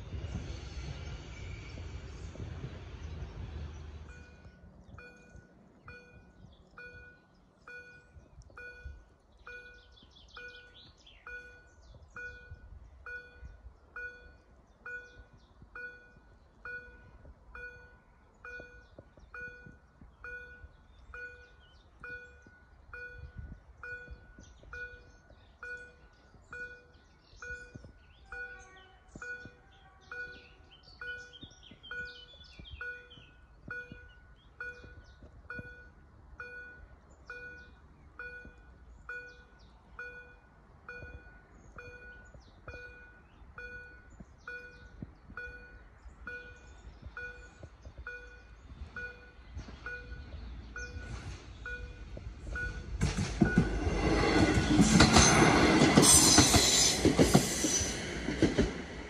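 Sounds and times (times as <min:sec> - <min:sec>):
passing train rumble: 0:00.0 - 0:59.0
birds chirping: 0:00.8 - 0:52.8.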